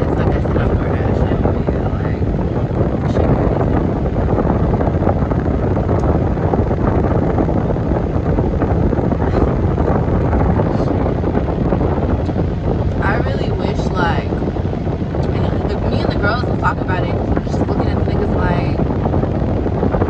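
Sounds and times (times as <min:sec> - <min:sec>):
car cabin road and wind noise: 0:00.0 - 0:20.0.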